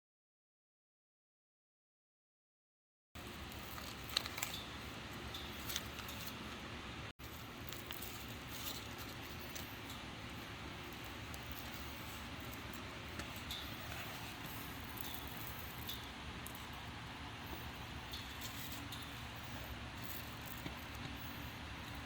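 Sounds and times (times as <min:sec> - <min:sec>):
faint background hum: 0:03.2 - 0:22.0.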